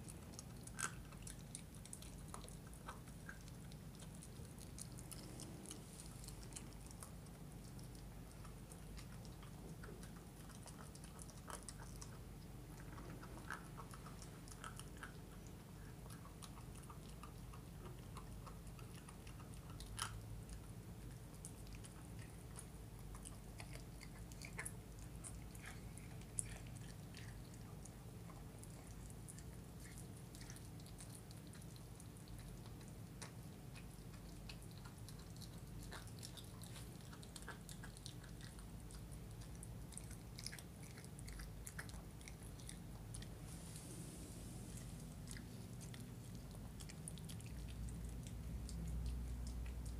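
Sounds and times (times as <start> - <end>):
puppy chewing on bone: 0.0 - 49.9.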